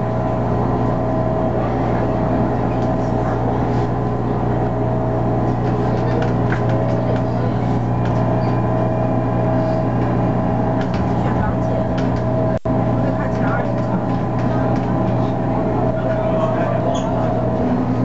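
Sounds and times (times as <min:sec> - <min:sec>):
motor hum: 0:00.0 - 0:18.0
train cabin rumble: 0:00.0 - 0:18.0.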